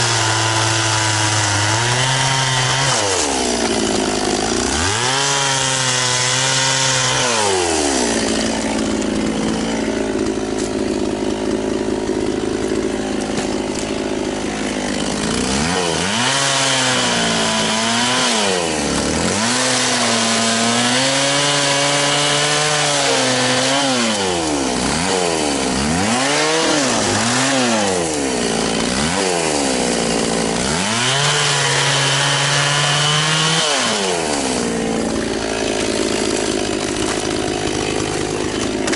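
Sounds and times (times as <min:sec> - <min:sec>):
chainsaw idling and cutting wood: 0:00.0 - 0:38.9.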